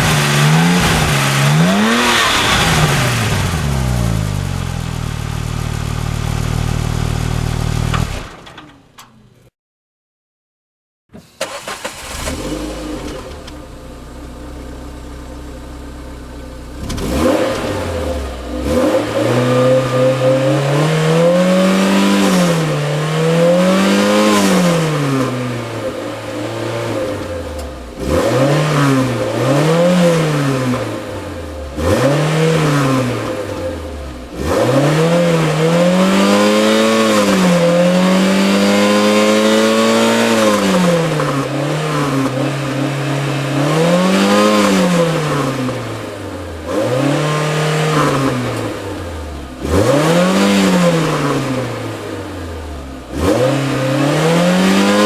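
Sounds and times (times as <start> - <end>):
car engine idling and revving: 0.0 - 8.4, 11.4 - 55.0.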